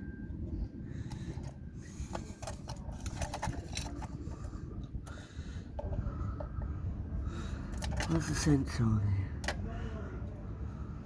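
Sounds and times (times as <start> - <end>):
low rumbling background: 0.0 - 11.0.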